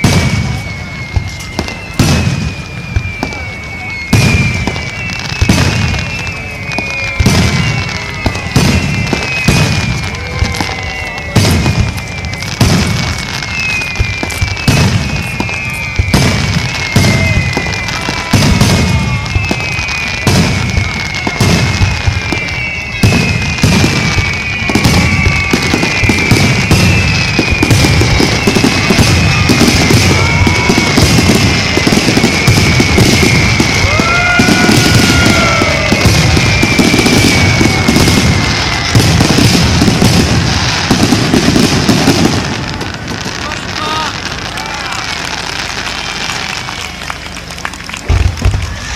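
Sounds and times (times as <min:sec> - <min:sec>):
fireworks booming: 0:00.0 - 0:48.9.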